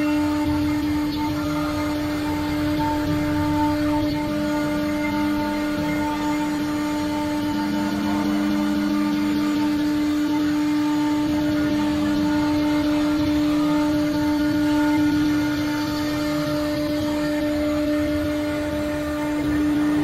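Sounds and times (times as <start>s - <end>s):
rough cutting noise: 0.0s - 20.0s
router spindle whine: 0.0s - 20.0s.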